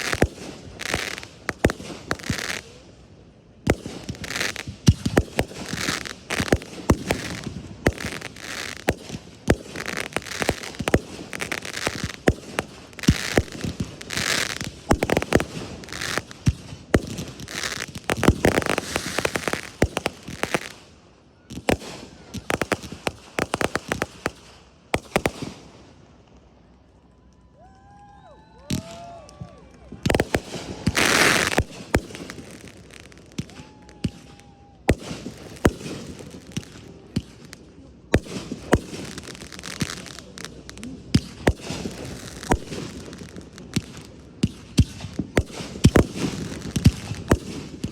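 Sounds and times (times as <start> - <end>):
fireworks bangs: 0.0 - 2.8, 3.6 - 25.9, 28.6 - 47.9
fireworks crackling: 0.0 - 47.9.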